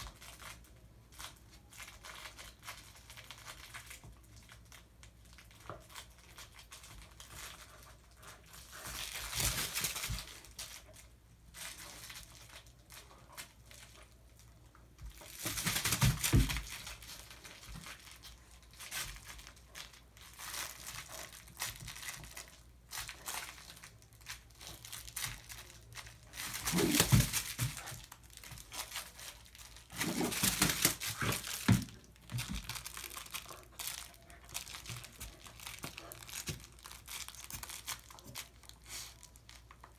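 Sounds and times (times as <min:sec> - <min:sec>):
dog chewing crinkly toy: 0:00.0 - 0:39.9.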